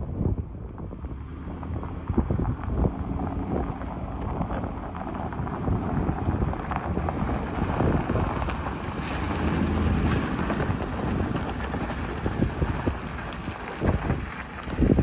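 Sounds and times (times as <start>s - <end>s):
truck engine running: 0.1s - 15.0s
tyres crunching on gravel: 0.8s - 15.0s.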